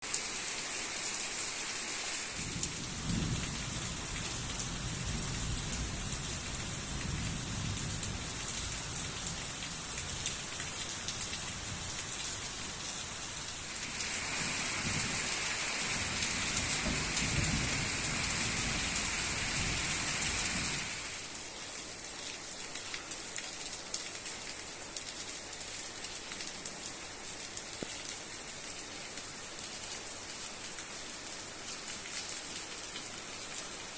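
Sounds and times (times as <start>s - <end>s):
heavy rain with drop ticks: 0.0s - 33.9s.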